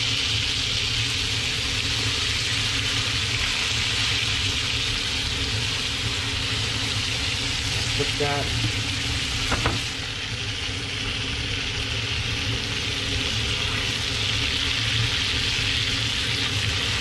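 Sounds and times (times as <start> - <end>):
fish sizzling in a hot pan: 0.0 - 17.0.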